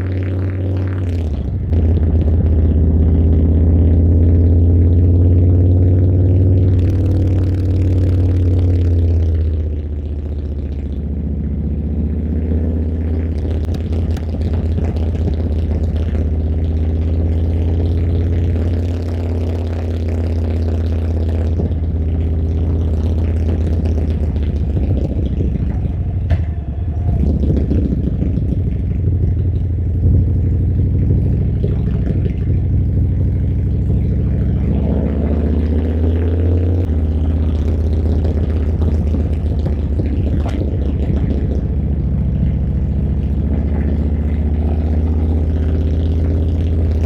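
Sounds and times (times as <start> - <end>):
motorcycle engine rumble: 0.0 - 47.0.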